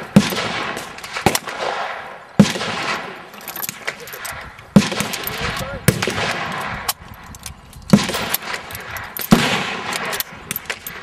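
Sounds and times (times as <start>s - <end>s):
rifle shots echoing: 0.0s - 7.1s, 7.9s - 11.0s.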